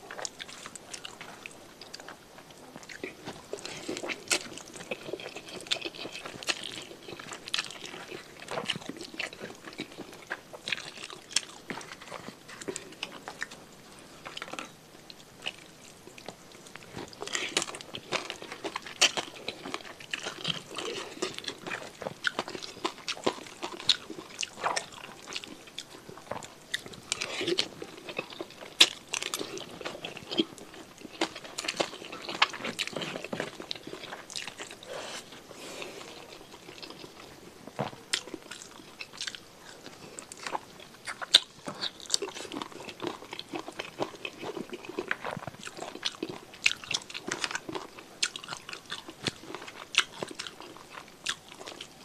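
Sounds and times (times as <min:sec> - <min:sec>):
wet chewing and crunching: 0:00.0 - 0:52.0.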